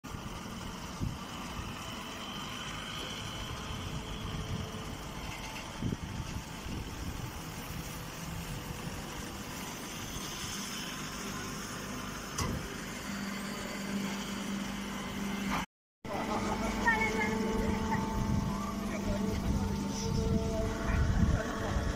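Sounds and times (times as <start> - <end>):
baling machinery running: 0.1 - 21.9
steady hum: 0.1 - 21.9.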